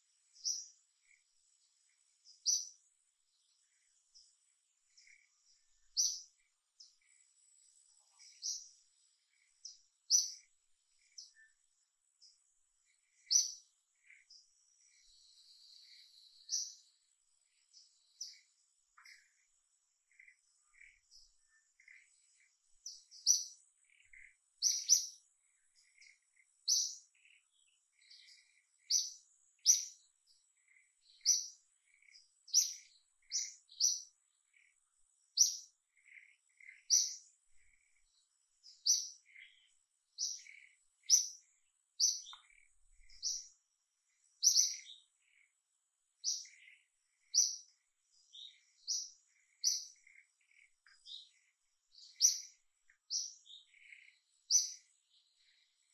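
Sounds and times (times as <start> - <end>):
songbird chirping: 0.0 - 55.9.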